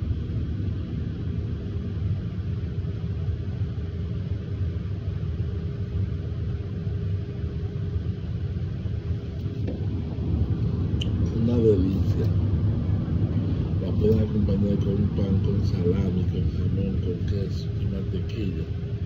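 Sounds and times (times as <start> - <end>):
faint even hum: 0.0 - 19.0
low rumble: 0.0 - 19.0.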